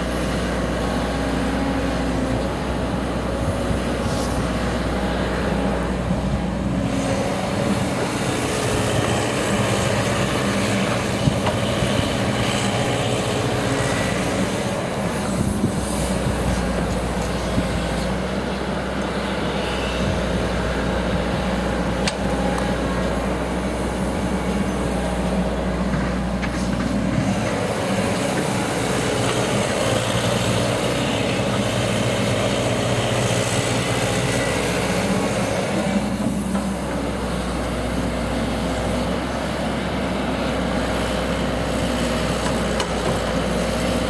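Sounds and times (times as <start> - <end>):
excavator diesel engine: 0.0 - 44.0.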